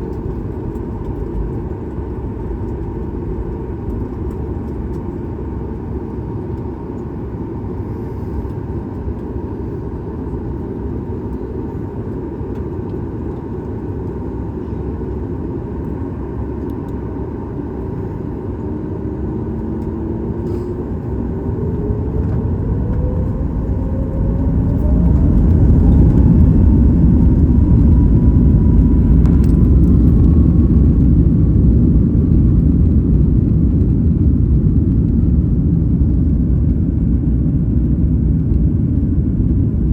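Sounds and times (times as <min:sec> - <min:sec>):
jet engine low rumble: 0:00.0 - 0:39.9
jet engine whine rising: 0:00.0 - 0:39.9.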